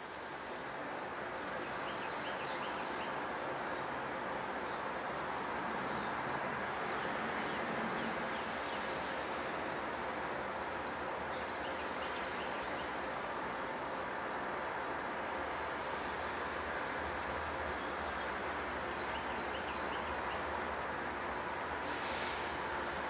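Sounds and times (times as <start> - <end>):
outdoor background hum: 0.0 - 23.0.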